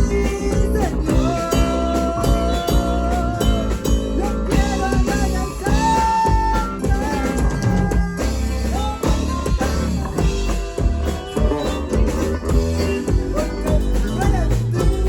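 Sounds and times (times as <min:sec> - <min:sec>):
bass: 0:00.0 - 0:15.0
drum kit steady beat: 0:00.0 - 0:15.0
guitar melody: 0:00.0 - 0:15.0.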